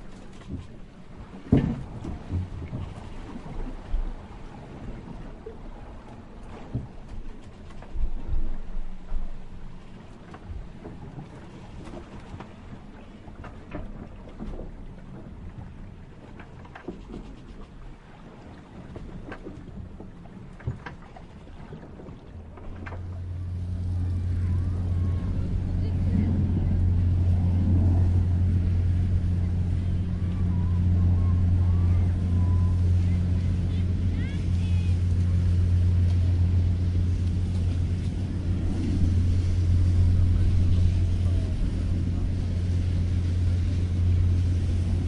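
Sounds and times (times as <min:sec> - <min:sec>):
boat engine humming: 0:00.0 - 0:45.0
boats knocking against dock: 0:00.0 - 0:45.0
moving water: 0:00.0 - 0:45.0.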